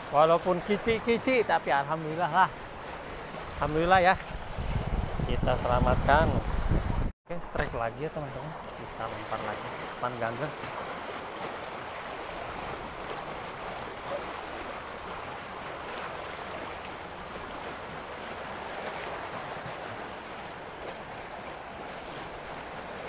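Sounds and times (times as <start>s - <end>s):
fast-flowing river rushing: 0.0s - 7.1s, 7.7s - 23.0s.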